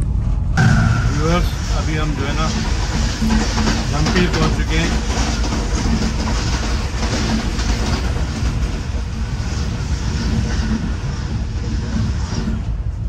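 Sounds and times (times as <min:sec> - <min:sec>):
passenger train rumbling along rails: 0:00.0 - 0:13.0.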